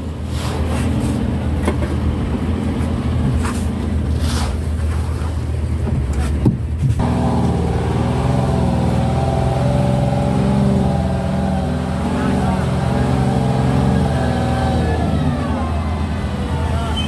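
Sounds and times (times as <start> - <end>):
boat engine running: 0.6 - 17.0.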